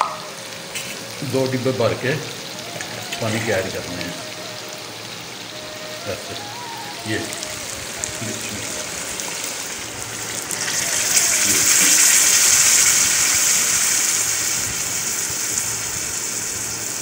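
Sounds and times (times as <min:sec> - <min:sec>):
water sizzling in hot pot: 0:00.0 - 0:17.0.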